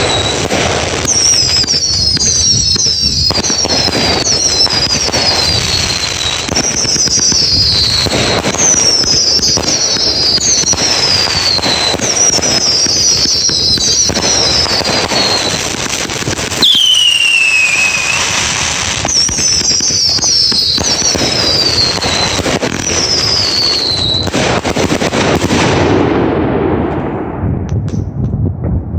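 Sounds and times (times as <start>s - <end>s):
falling firework whistles: 0.0s - 25.9s
fireworks crackling and banging: 0.0s - 28.9s.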